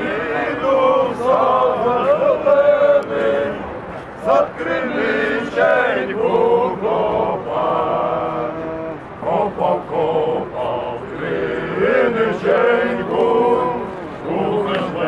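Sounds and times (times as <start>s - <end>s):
men singing in chorus: 0.0s - 15.0s.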